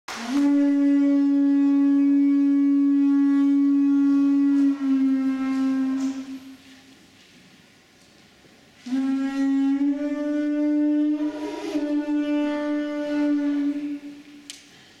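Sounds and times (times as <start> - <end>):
wind instrument long note: 0.1 - 6.9, 8.8 - 14.4.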